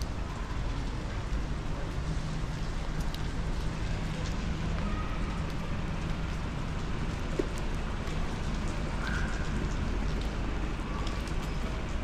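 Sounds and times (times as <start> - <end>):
rain on a wet street: 0.0 - 12.0.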